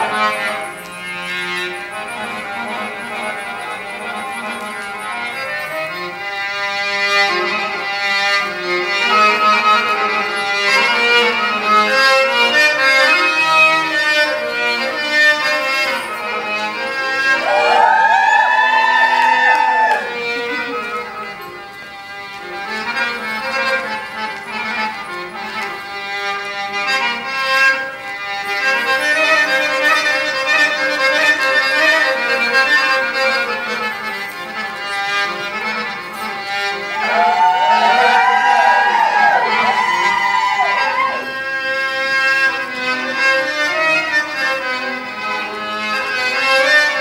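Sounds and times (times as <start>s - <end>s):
instrumental belly-dance music: 0.0s - 47.0s.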